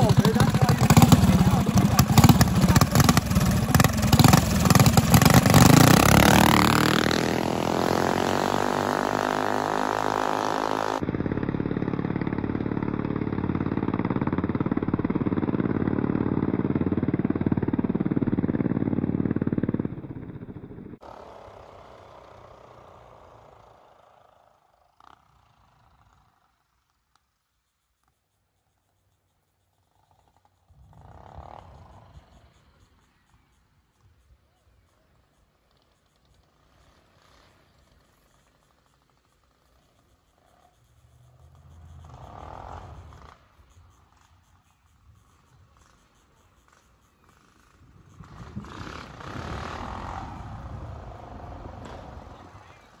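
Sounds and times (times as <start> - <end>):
minibike engines revving: 0.0 - 26.9, 29.9 - 53.0.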